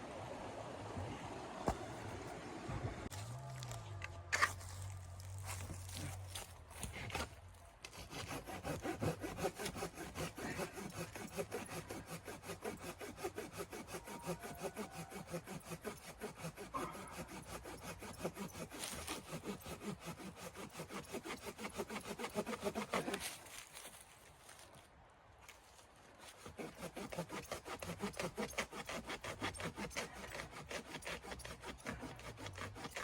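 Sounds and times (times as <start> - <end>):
hand saw cutting wood: 4.4 - 24.1, 26.2 - 33.0.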